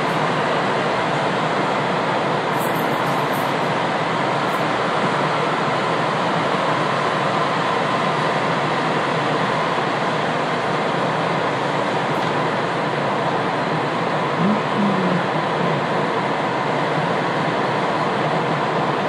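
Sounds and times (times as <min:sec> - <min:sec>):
faint onboard equipment hum: 0:00.0 - 0:19.0
train interior hiss: 0:00.0 - 0:19.0.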